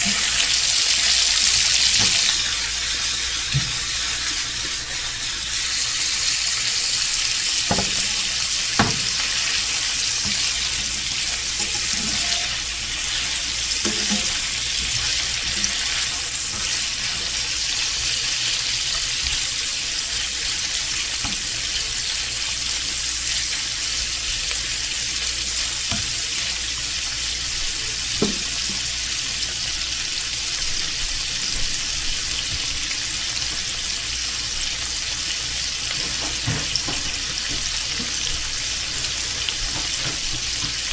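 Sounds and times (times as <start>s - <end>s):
bacon sizzling in a pan: 0.0s - 40.9s.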